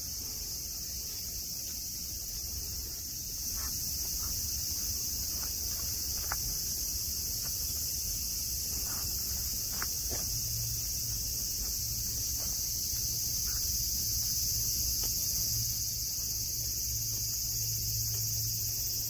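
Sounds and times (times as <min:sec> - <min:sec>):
cicada chorus: 0:00.0 - 0:19.0.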